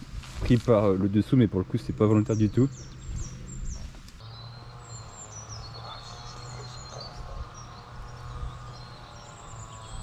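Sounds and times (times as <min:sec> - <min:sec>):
birds chirping: 0:00.0 - 0:10.0
steady low hum: 0:00.0 - 0:10.0.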